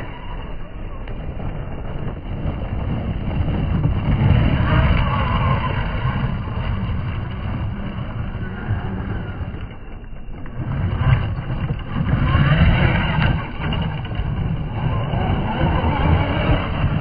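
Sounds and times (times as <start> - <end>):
rc truck motor: 0.0 - 17.0
wind on microphone: 0.0 - 17.0.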